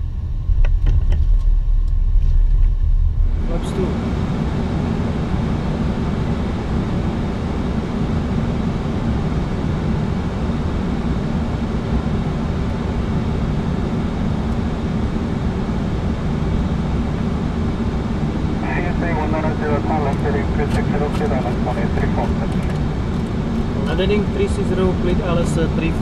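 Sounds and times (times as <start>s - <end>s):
airliner cockpit noise: 0.0s - 26.0s.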